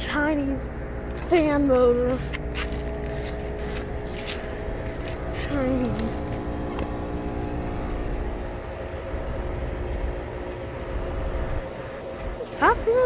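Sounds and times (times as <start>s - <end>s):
air conditioning unit humming: 0.0s - 13.0s.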